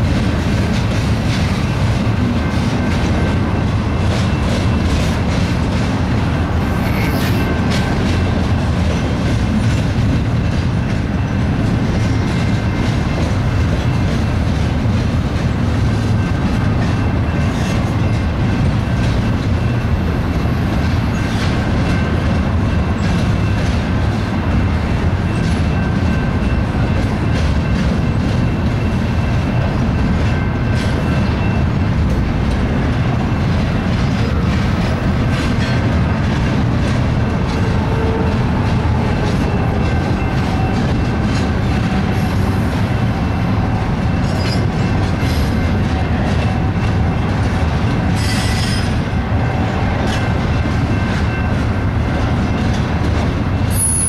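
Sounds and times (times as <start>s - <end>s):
wheels clicking over rail joints: 0.0s - 53.8s
train wheels rumbling on rails: 0.0s - 54.0s.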